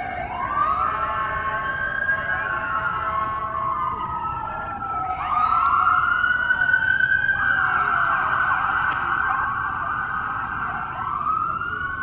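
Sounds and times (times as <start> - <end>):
fire truck siren: 0.0 - 12.0.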